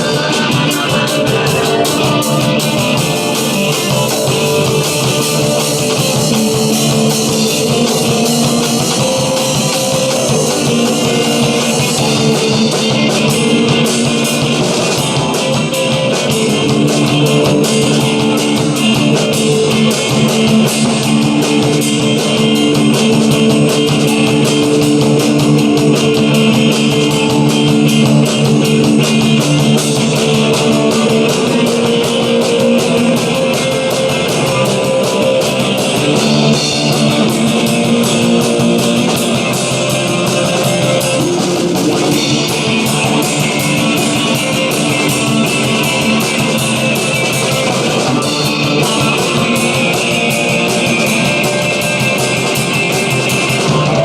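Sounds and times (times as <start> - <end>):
drum beat: 0.0 - 54.0
guitar chords: 0.0 - 54.0.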